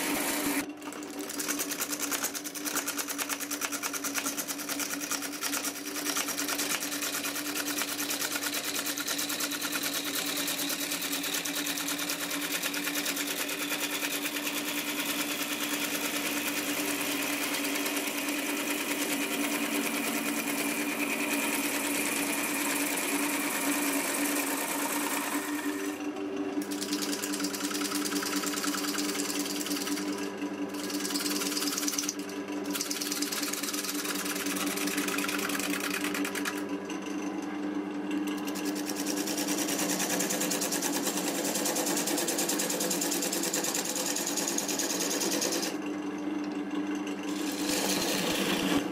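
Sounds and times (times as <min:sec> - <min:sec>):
lathe motor hum: 0:00.0 - 0:00.7, 0:06.7 - 0:48.9
gouge cutting wood on a lathe: 0:00.0 - 0:02.8, 0:05.8 - 0:26.0, 0:26.6 - 0:37.0, 0:38.3 - 0:45.8, 0:47.2 - 0:48.9.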